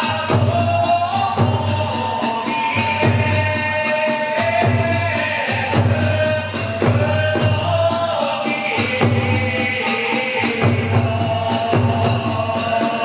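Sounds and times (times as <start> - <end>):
drum beats: 0.0 - 13.0.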